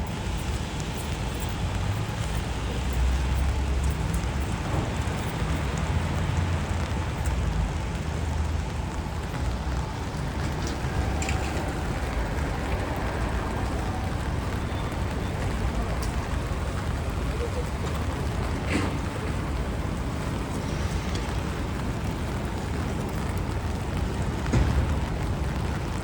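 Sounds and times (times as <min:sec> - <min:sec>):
rain hissing: 0:00.0 - 0:26.0
traffic on wet pavement: 0:00.0 - 0:26.0.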